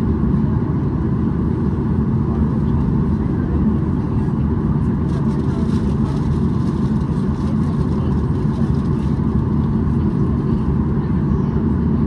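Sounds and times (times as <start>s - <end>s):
airplane cabin low rumble: 0.0s - 12.0s.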